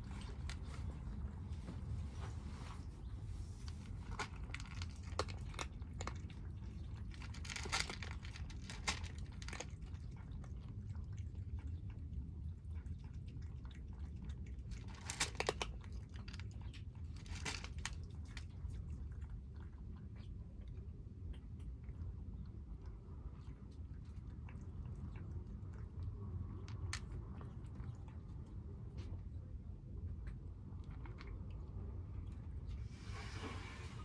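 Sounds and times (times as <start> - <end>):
kittens chewing food: 0.0 - 34.0.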